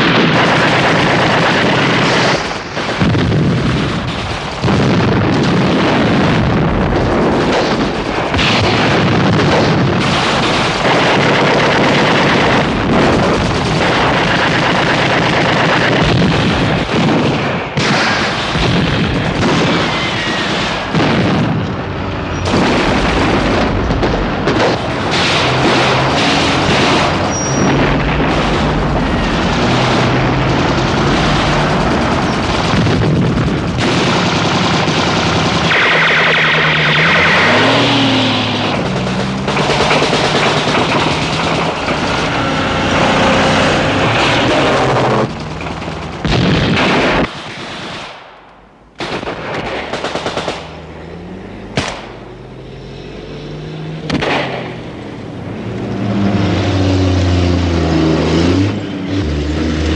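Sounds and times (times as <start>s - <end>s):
machine-gun fire: 0.0s - 52.6s, 54.0s - 55.1s
explosions: 0.0s - 59.9s.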